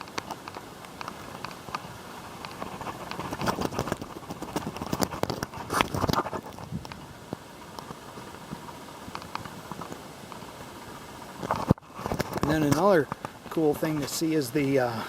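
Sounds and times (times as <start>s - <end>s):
footsteps on shingle roof: 0.0s - 15.0s.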